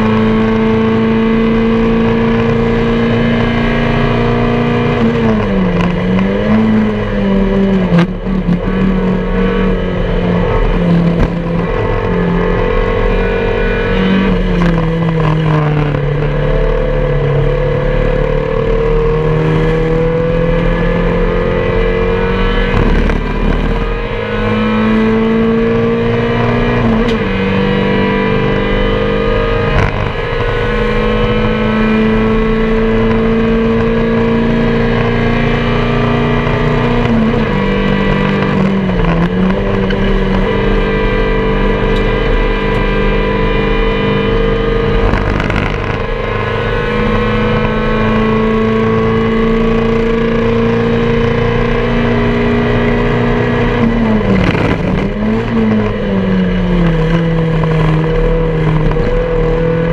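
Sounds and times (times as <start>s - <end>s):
race car engine at high revs: 0.0s - 59.9s
wind and road noise: 0.0s - 59.9s.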